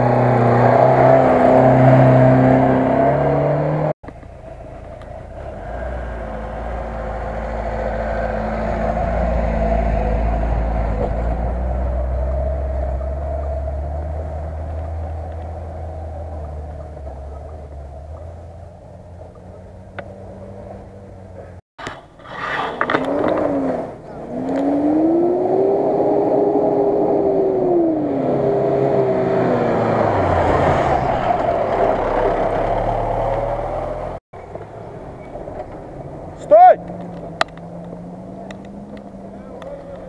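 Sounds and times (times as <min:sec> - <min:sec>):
car engine revving hard: 0:00.0 - 0:03.9, 0:05.4 - 0:21.3, 0:22.9 - 0:34.2, 0:36.8 - 0:40.0.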